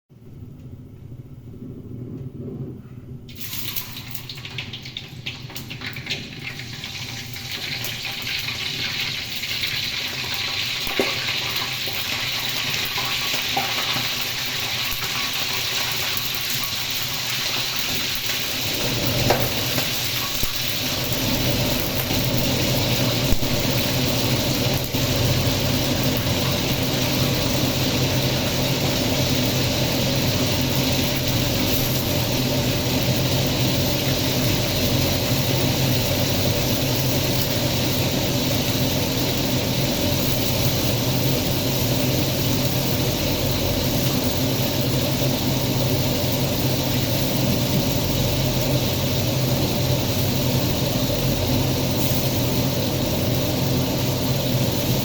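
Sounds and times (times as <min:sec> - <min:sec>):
shrimp sizzling in hot oil: 0:03.3 - 0:55.0.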